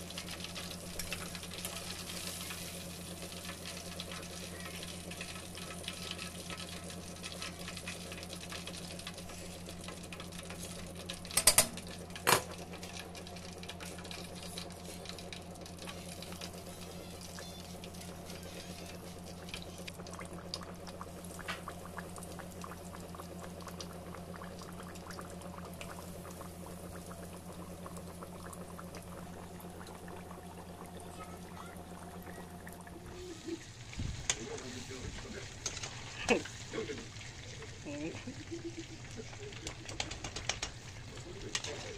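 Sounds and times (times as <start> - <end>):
fish sizzling in hot oil: 0.0 - 32.6, 33.2 - 41.9
steady low hum: 0.0 - 41.9.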